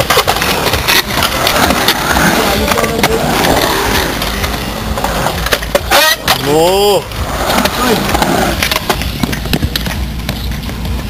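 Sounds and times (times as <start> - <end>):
skateboard wheels rolling on concrete: 0.0 - 11.0
skateboards clacking on concrete: 0.0 - 11.0.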